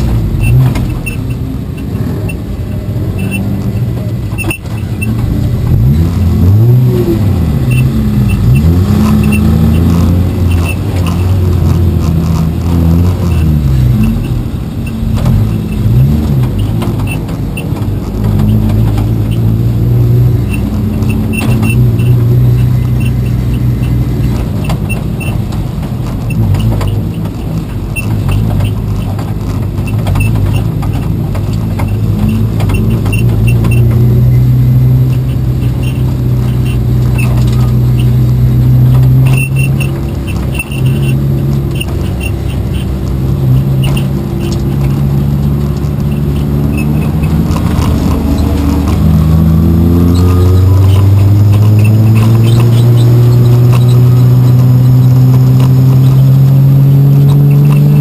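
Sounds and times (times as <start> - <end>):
race car engine revving: 0.0 - 58.0
light ticking rattles: 7.6 - 58.0.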